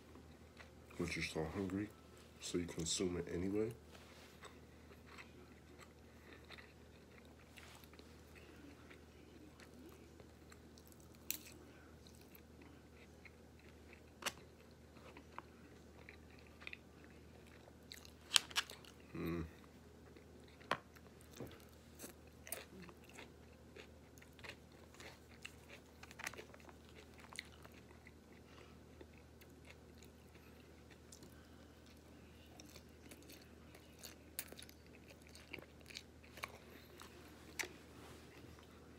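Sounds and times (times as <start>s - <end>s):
person chewing noodles: 4.4s - 38.9s.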